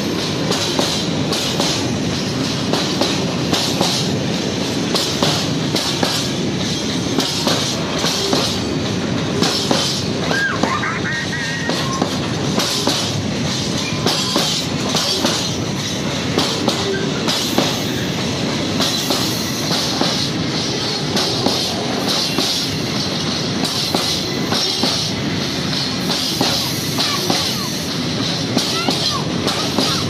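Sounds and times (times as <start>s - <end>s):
wheels clacking over rail joints: 0.0s - 10.8s, 11.4s - 30.0s
freight train wheels rumbling: 0.0s - 30.0s.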